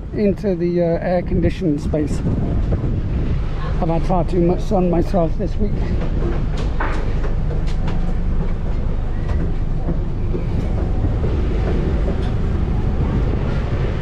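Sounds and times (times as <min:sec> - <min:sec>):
ferry engines rumbling: 0:00.0 - 0:14.0.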